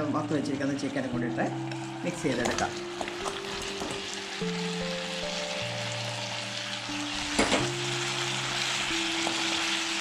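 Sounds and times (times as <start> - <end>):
background music with held notes: 0.0 - 10.0
chicken sizzling in a frying pan: 0.4 - 10.0.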